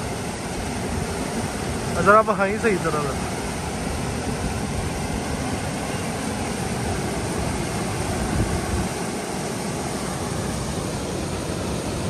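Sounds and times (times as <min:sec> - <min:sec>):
fast turbulent river rushing: 0:00.0 - 0:12.0.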